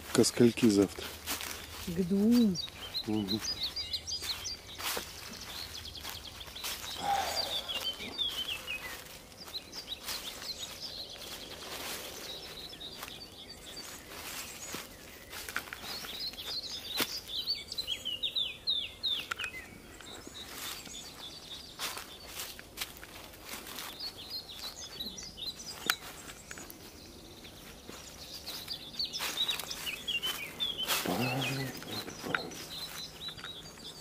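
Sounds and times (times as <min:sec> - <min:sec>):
footsteps on dry leaves: 0:00.0 - 0:18.6, 0:19.5 - 0:34.0
small birds chirping: 0:00.0 - 0:34.0.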